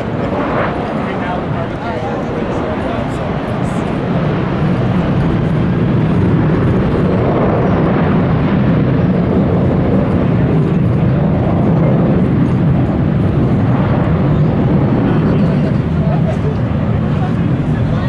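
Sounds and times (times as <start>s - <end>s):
airliner engines passing: 0.0s - 18.0s.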